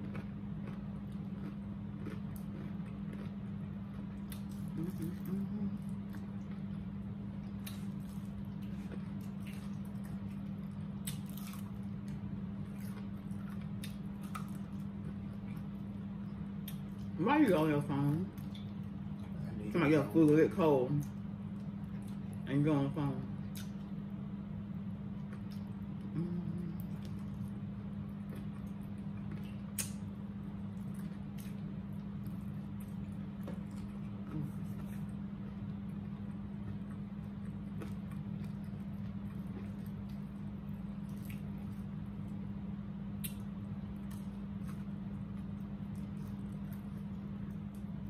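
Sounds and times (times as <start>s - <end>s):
wet chewing and mouth smacks: 0.0s - 17.2s, 23.4s - 24.0s, 25.1s - 42.4s, 43.1s - 48.0s
steady low hum: 0.0s - 48.0s.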